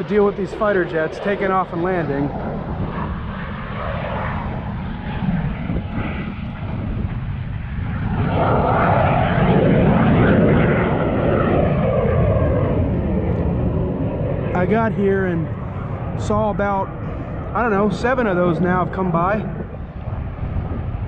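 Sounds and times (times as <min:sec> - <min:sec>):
fighter jet engine rumble: 0:00.0 - 0:21.0.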